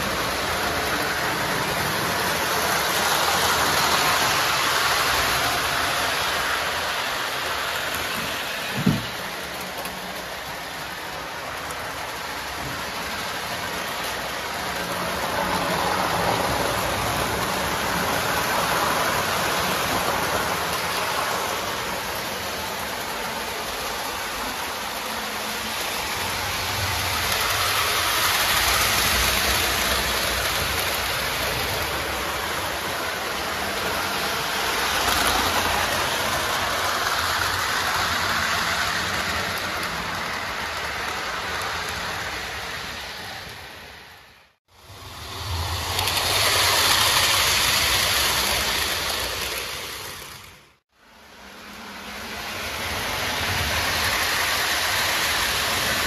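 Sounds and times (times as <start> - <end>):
toy trains rolling on track: 0.0 - 56.0.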